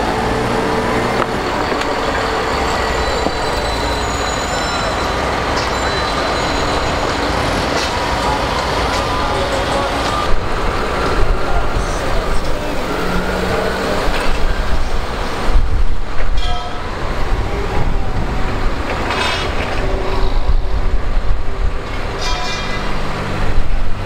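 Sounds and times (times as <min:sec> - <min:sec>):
forklift engines rumbling: 0:00.0 - 0:24.0.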